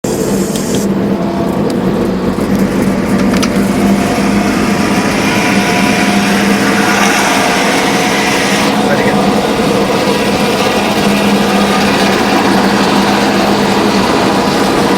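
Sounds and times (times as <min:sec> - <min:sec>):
bus engine droning: 0:00.0 - 0:14.9
road and wind noise: 0:00.0 - 0:14.9.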